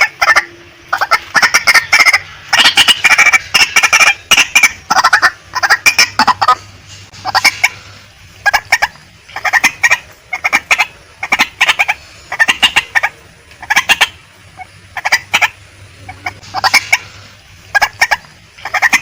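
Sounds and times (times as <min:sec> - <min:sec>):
waterhen calling harsh notes: 0:00.0 - 0:19.0.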